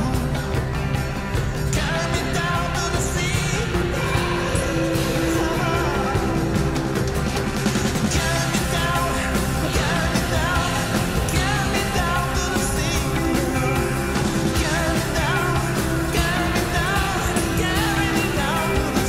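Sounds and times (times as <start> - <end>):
song with singer and band: 0.0 - 19.0.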